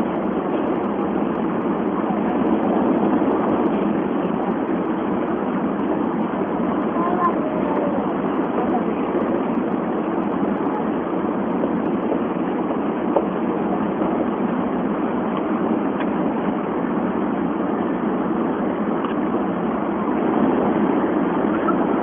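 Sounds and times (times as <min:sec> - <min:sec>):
bullet train running noise: 0:00.0 - 0:22.0.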